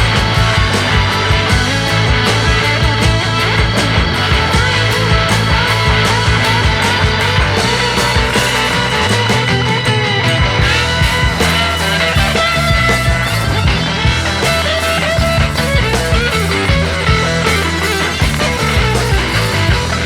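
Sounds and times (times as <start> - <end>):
rock music with electric guitar: 0.0 - 20.0.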